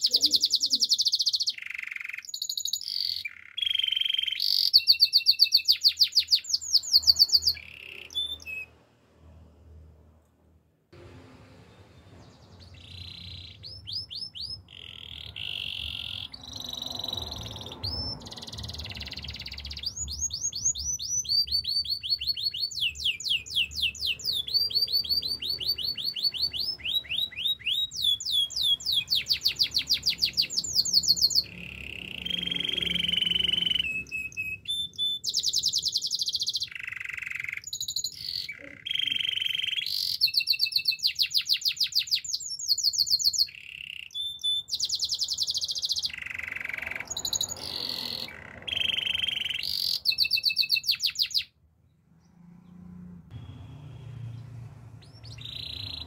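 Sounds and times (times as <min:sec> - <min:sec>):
canary singing: 0:00.0 - 0:08.8, 0:12.1 - 0:56.0.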